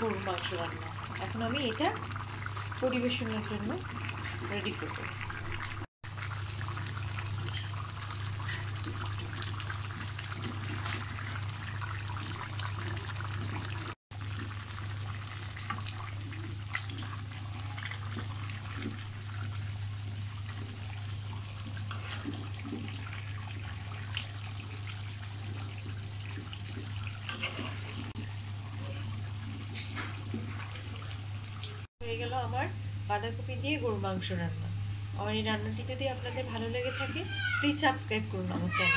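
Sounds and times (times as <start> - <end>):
curry bubbling and sizzling: 0.0 - 31.9.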